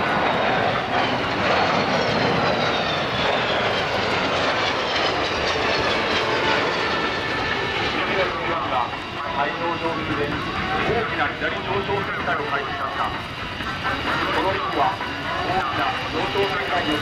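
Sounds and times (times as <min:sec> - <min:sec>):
jet aircraft passing: 0:00.0 - 0:17.0.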